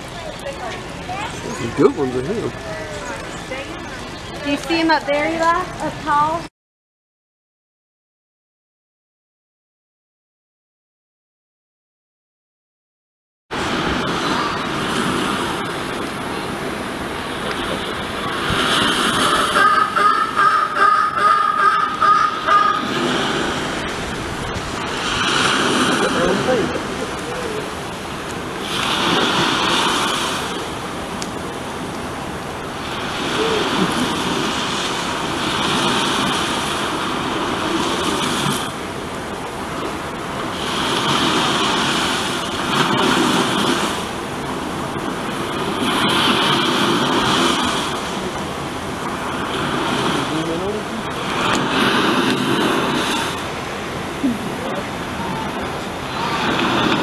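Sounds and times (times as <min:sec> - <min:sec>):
steady outdoor rushing noise: 0:00.0 - 0:06.5, 0:13.5 - 0:57.0.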